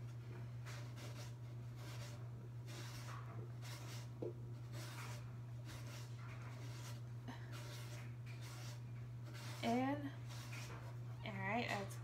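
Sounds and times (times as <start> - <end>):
stick scraping buffing pad: 0.6 - 11.0.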